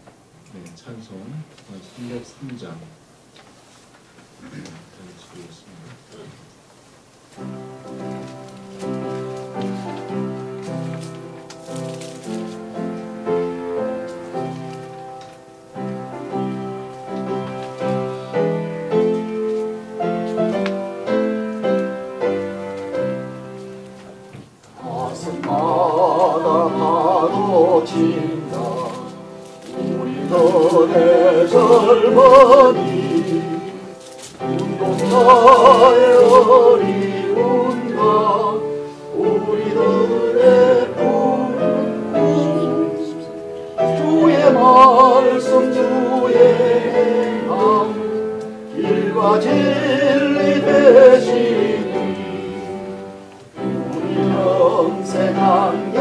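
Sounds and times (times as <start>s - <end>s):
piano playing a hymn: 7.2s - 56.0s
congregation singing a hymn: 7.4s - 56.0s.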